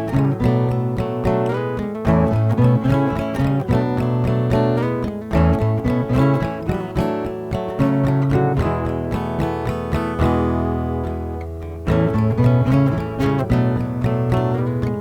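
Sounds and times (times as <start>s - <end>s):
acoustic guitar tune: 0.0s - 15.0s.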